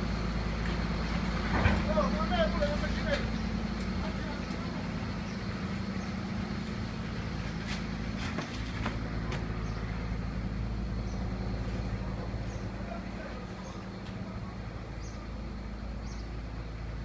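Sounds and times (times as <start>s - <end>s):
baler machine hum: 0.0s - 17.0s.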